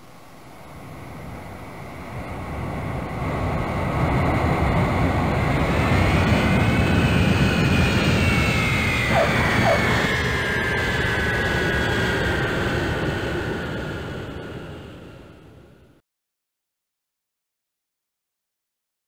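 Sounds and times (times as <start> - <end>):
high jet whine: 0.0 - 15.9
jet engine roar: 0.0 - 15.9.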